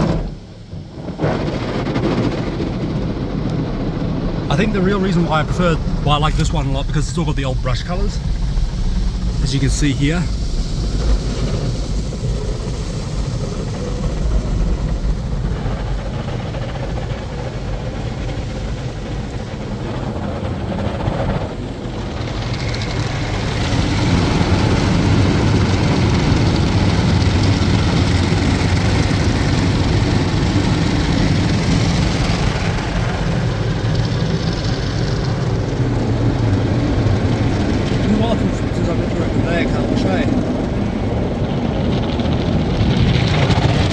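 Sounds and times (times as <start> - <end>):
car wash machinery rumble: 0.0 - 43.9.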